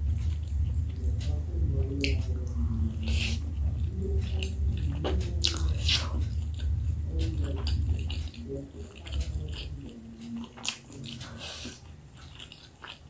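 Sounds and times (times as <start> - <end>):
low hum: 0.0 - 12.6
mouth chewing wet smacks: 0.1 - 1.2, 1.8 - 13.0.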